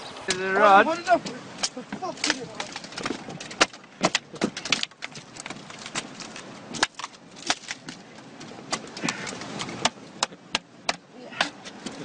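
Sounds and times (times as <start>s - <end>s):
sharp irregular knocks and clicks: 1.2s - 12.0s.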